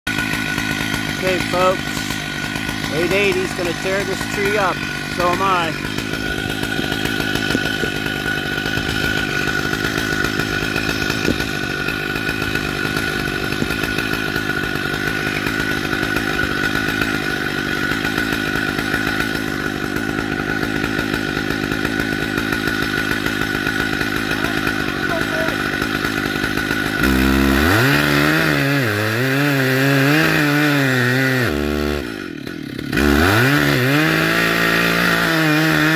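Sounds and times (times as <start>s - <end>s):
chainsaw cutting wood: 0.1s - 35.9s.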